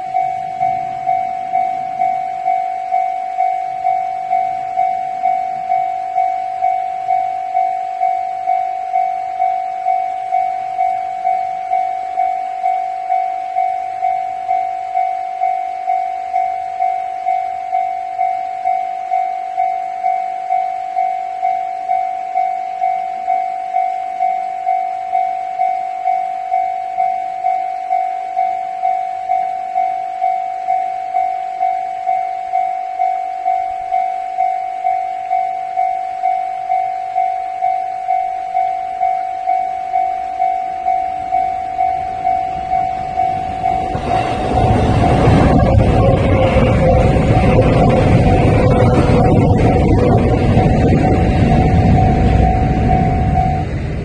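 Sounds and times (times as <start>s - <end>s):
level crossing bell ringing: 0.0s - 53.9s.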